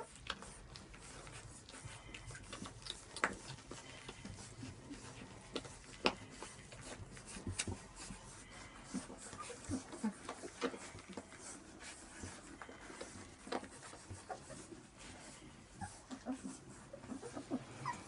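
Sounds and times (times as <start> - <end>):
puppies suckling: 0.0 - 18.0.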